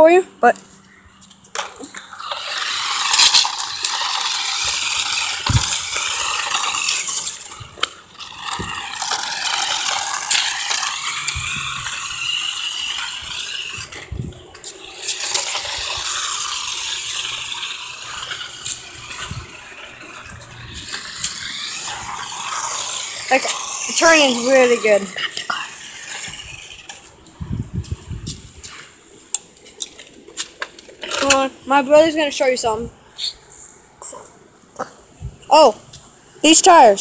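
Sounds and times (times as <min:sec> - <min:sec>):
toy car electric motor and gears: 0:01.3 - 0:32.8, 0:36.4 - 0:37.0.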